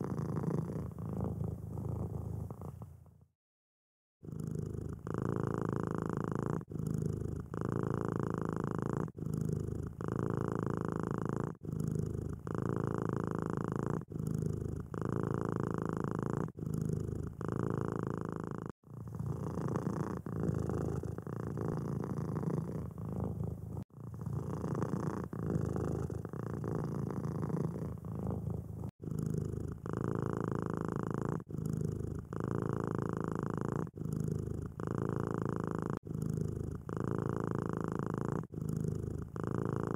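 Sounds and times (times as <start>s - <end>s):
cat purring: 0.0s - 3.3s, 4.2s - 39.9s.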